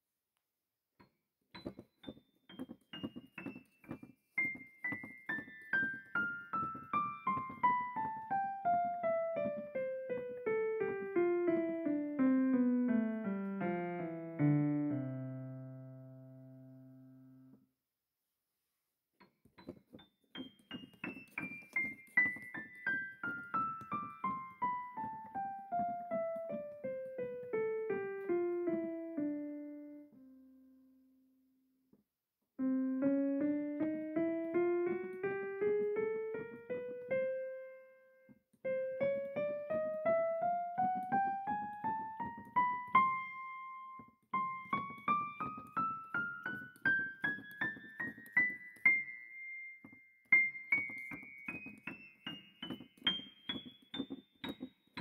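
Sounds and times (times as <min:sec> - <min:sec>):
piano music: 0:01.5 - 0:17.5, 0:19.6 - 0:30.8, 0:32.6 - 0:55.0.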